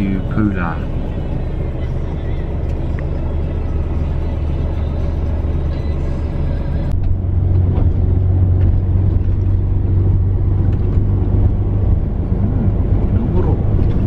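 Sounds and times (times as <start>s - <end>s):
bus engine drone: 0.0s - 14.0s
road noise: 0.0s - 14.0s.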